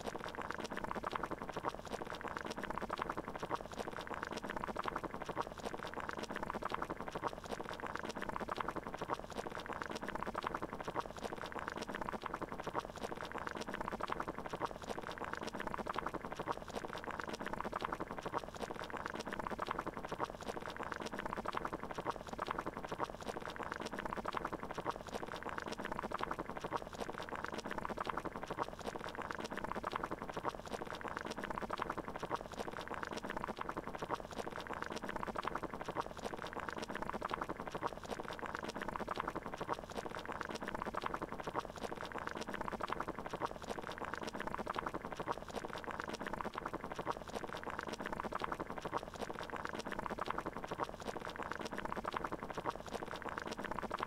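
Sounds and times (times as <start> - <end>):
water boiling in a pot: 0.0 - 54.0.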